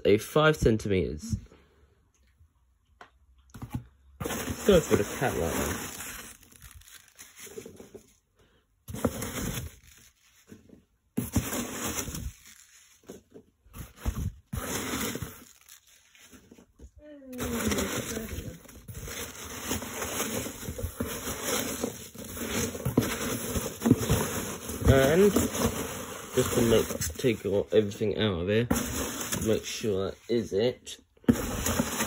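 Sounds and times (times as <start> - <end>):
rustling packing peanuts: 3.5 - 32.0.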